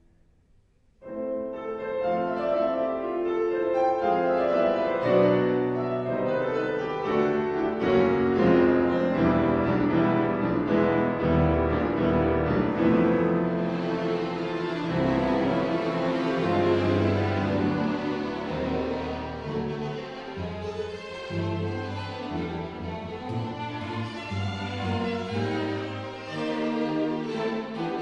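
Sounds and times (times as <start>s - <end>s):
classical chamber music with piano: 1.0s - 28.0s.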